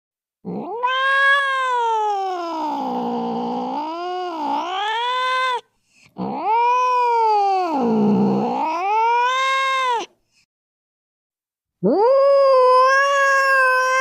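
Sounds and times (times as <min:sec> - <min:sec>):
cat yowling: 0:00.4 - 0:10.1, 0:11.8 - 0:14.0.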